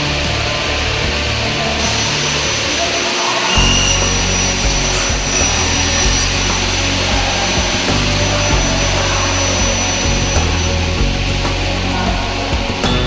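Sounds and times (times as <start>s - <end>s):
background music with bass: 0.0s - 13.0s
saw cutting through aluminium: 0.1s - 11.8s.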